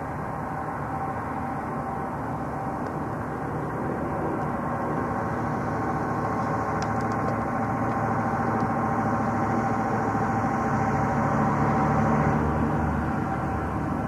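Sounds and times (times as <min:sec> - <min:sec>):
lorry engine running: 0:00.0 - 0:14.0.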